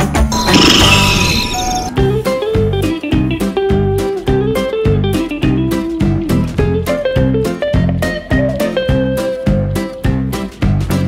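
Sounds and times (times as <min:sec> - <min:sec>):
guitar tune over a beat: 0:00.0 - 0:11.0.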